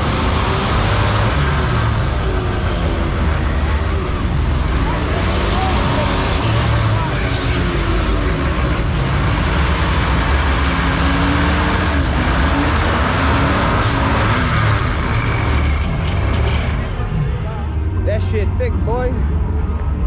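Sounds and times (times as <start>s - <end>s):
car engine roaring at high revs: 0.0s - 20.0s.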